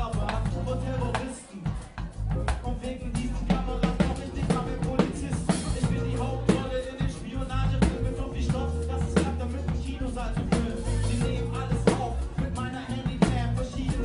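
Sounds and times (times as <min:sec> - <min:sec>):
bass line: 0:00.0 - 0:14.0
drum kit groove: 0:00.0 - 0:14.0.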